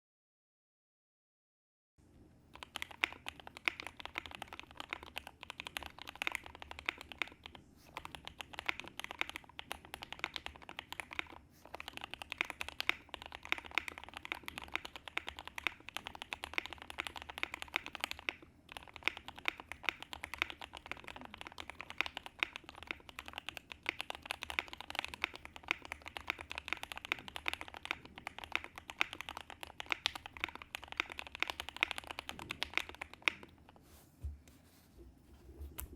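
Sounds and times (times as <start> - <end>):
typing on mechanical keyboard: 2.5 - 33.7.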